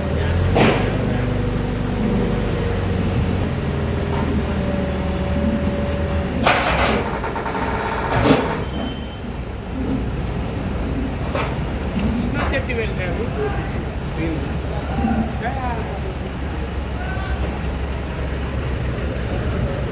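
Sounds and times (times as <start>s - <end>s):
heavy vehicle engine running: 0.0s - 19.9s.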